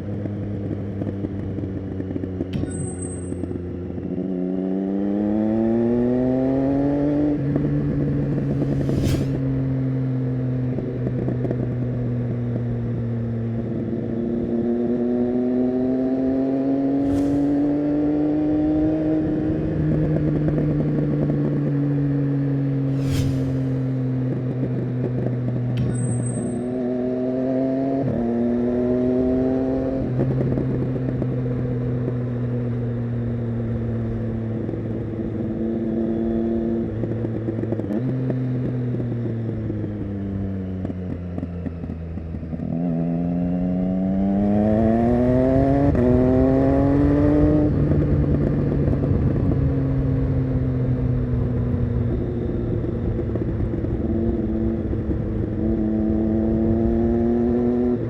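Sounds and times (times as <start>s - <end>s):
motorcycle engine revving: 0.0s - 51.5s, 52.1s - 58.0s.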